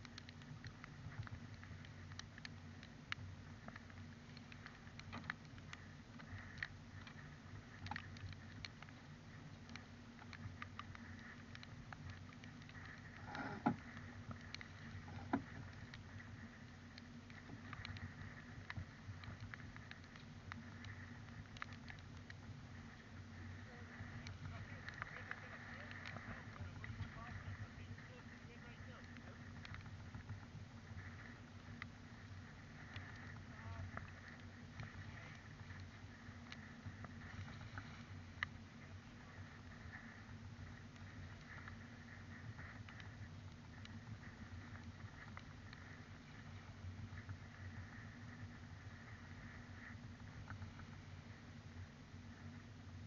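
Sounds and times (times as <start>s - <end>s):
light clicks and taps: 0.0s - 52.6s
light ticks: 0.0s - 53.0s
wash of wind and water: 0.0s - 53.0s.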